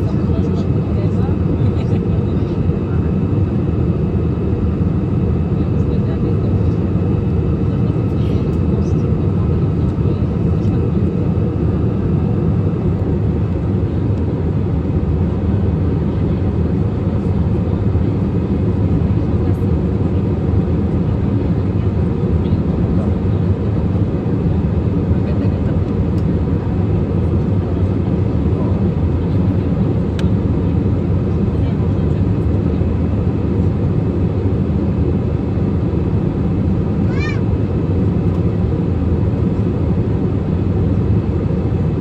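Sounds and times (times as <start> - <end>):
airliner engines and airflow: 0.0 - 42.0.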